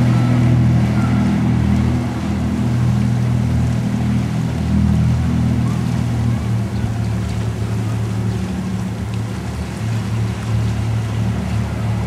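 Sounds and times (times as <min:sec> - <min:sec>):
boat engine droning: 0:00.0 - 0:12.0
water rushing: 0:00.0 - 0:12.0
wind: 0:00.0 - 0:12.0.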